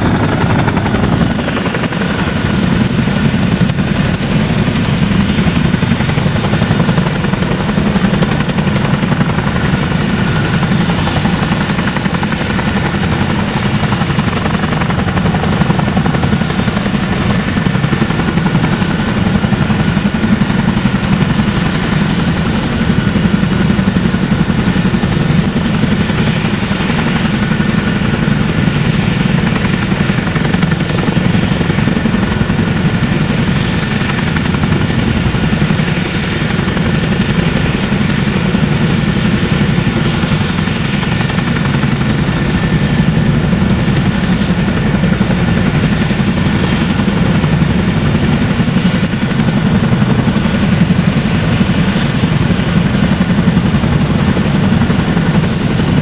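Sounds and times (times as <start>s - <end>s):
helicopter rotor beat: 0.0s - 56.0s
high engine whine: 0.0s - 56.0s.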